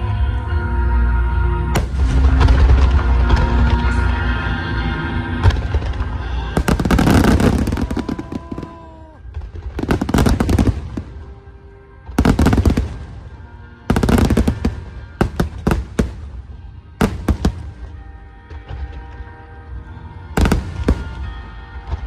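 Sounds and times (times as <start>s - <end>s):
music: 0.0s - 22.0s
fireworks bursting and crackling: 1.8s - 4.3s, 5.4s - 19.1s, 20.4s - 22.0s.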